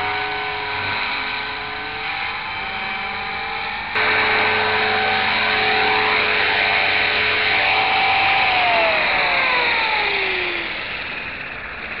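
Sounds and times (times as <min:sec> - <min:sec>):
rc helicopter rotor whining: 0:00.0 - 0:12.0.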